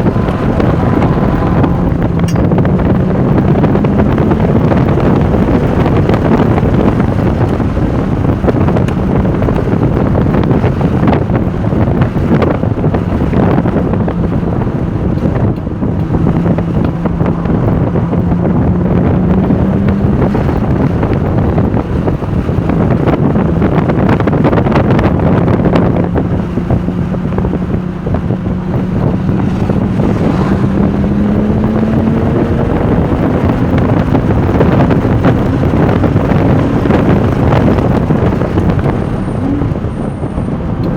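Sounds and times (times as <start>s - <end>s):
car engine accelerating: 0.0s - 40.9s
wind and road noise: 0.0s - 40.9s.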